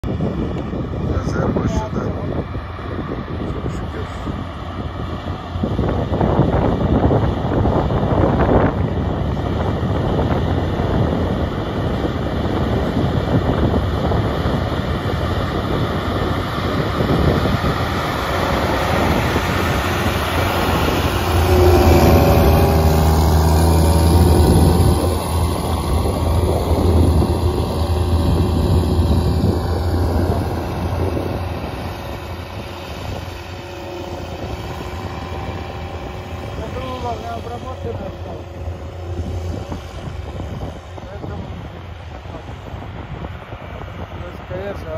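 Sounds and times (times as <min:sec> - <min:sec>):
tractor diesel engine droning: 0:00.0 - 0:44.9.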